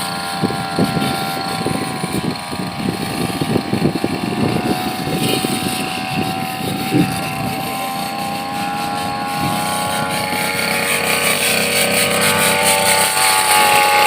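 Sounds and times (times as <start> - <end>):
blade crackling through plants: 0.0 - 14.0
brush cutter engine whine: 0.0 - 14.0.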